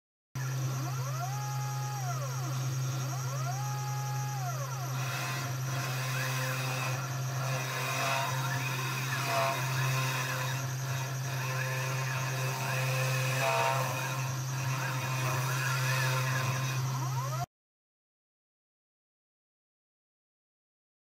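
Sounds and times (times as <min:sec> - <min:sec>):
engraving bit scratching board: 0:00.4 - 0:17.4
spindle motor humming: 0:00.4 - 0:17.5
stepper motors whining: 0:00.4 - 0:17.5.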